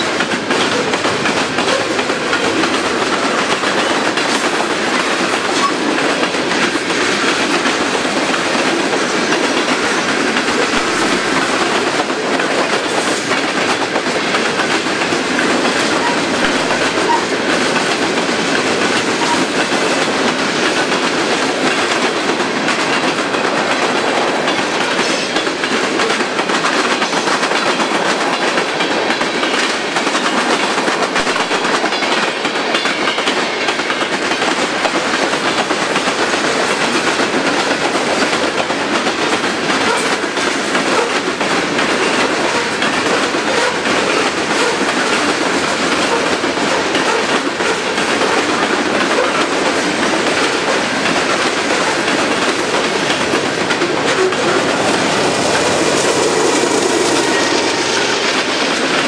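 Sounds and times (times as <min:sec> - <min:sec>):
steel wheels on rails: 0:00.0 - 0:59.0
wheels clicking over rail joints: 0:00.0 - 0:59.0.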